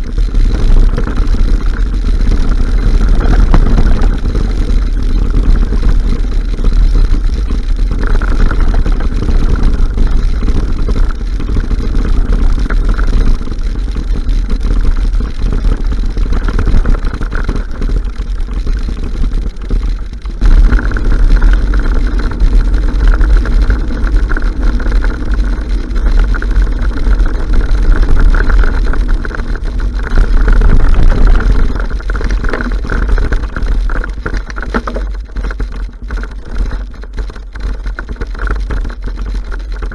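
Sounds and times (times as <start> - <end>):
rolling rumble of bike: 0.0 - 39.9
wind buffeting microphone: 0.0 - 39.9.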